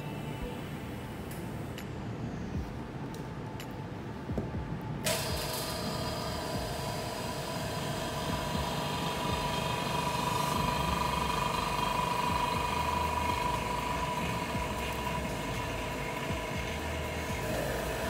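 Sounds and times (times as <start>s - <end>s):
machine hum with whine: 0.0s - 18.0s.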